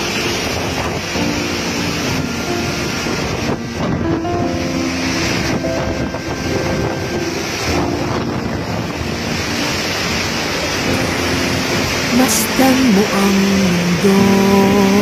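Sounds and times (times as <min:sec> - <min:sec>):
soft instrumental music: 0:00.0 - 0:15.0
wind and heavy rain: 0:00.0 - 0:15.0.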